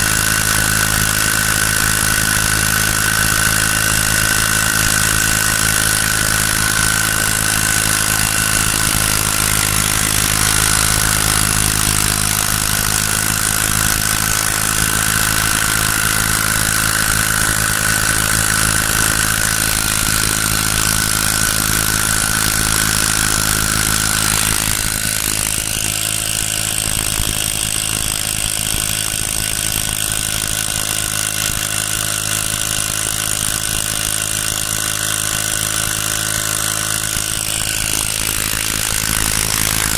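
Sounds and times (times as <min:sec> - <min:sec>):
small boat motor running: 0:00.0 - 0:39.9.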